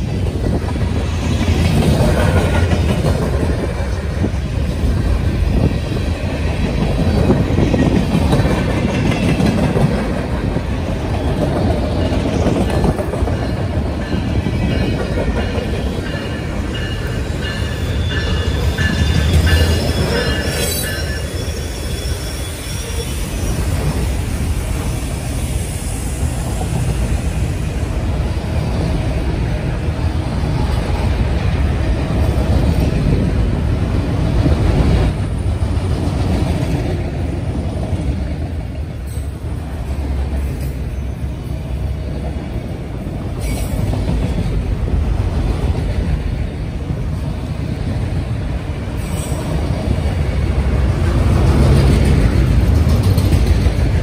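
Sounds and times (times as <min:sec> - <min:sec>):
steel wheels on rail: 0:00.0 - 0:54.0.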